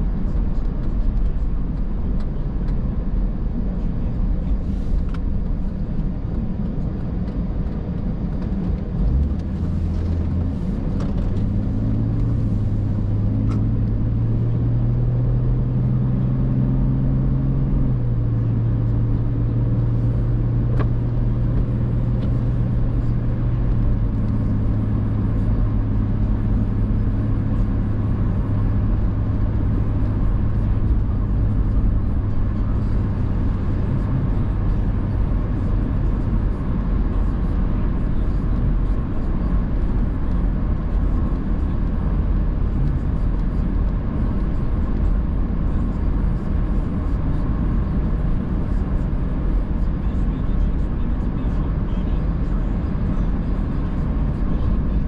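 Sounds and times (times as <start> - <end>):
car engine hum from inside cabin: 0.0 - 55.0
tyres on wet road: 0.0 - 55.0.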